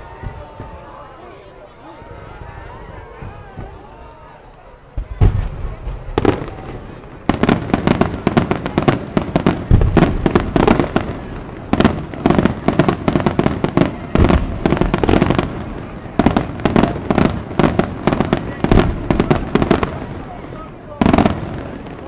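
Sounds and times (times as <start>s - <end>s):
fireworks bursts and bangs: 0.0s - 22.0s.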